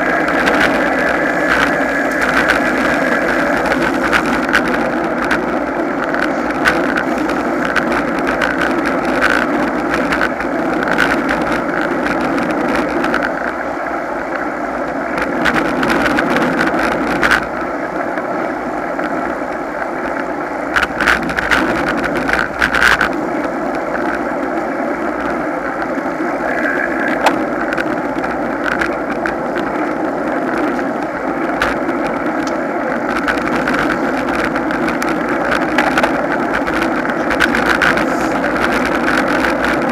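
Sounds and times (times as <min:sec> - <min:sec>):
tyre and road rumble: 0:00.0 - 0:39.9
wind on microphone: 0:00.0 - 0:39.9.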